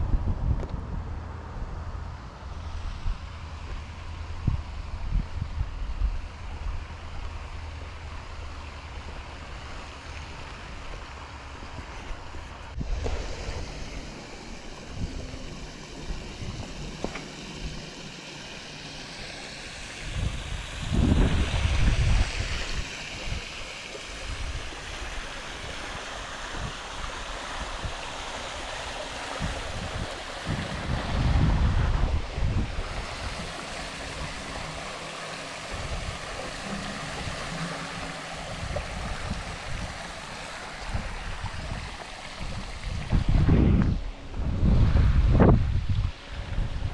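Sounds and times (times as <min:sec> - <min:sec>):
wind rumbling on microphone: 0:00.0 - 0:46.9
steady rushing hiss: 0:01.9 - 0:46.9
fountain water splashing: 0:02.4 - 0:43.5.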